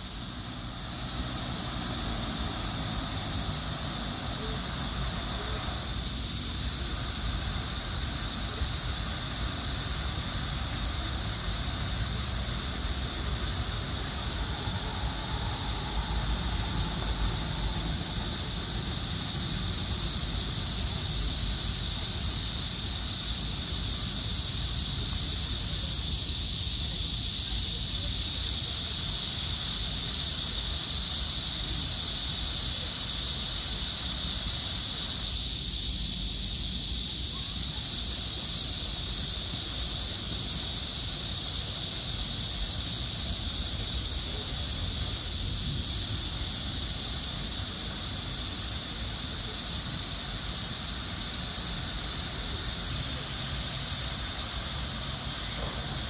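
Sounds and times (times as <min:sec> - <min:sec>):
fountain water: 0:00.0 - 0:56.0
high-pitched insect chorus: 0:00.0 - 0:56.0.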